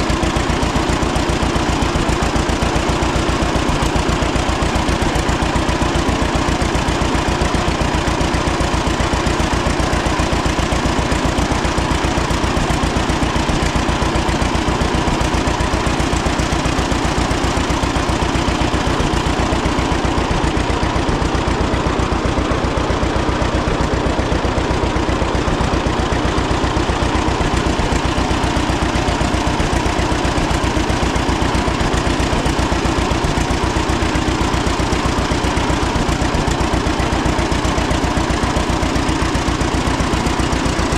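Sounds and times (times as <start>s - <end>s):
two-cylinder tractor engine running: 0.0s - 40.9s.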